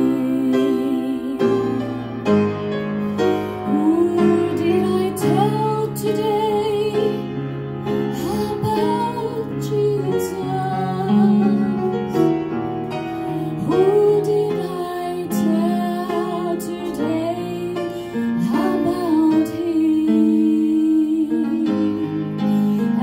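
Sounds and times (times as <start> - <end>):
woman singing into microphone: 0.0 - 2.2, 3.6 - 7.4, 8.1 - 11.8, 13.6 - 23.0
electronic keyboard chords: 0.0 - 23.0.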